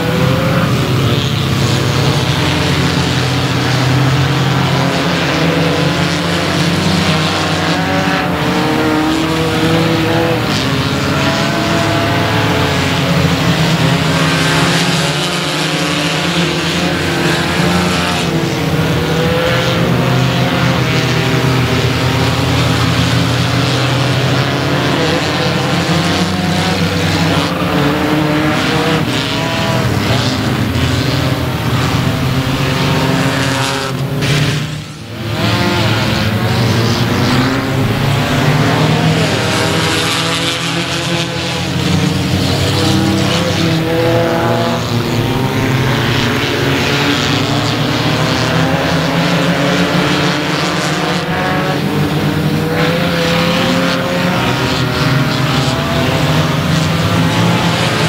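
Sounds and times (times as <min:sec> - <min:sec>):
race car engines: 0:00.0 - 0:58.0.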